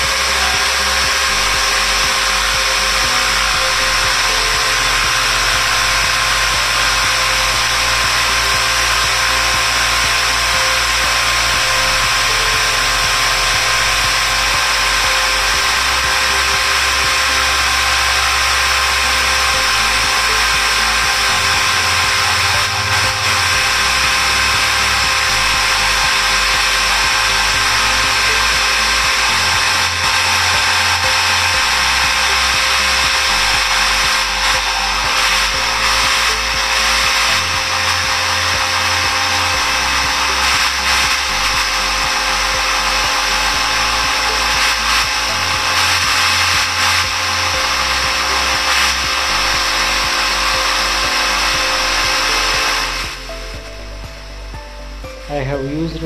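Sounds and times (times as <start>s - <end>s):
jigsaw cutting wood: 0.0s - 53.3s
background music with bassline: 0.0s - 56.0s.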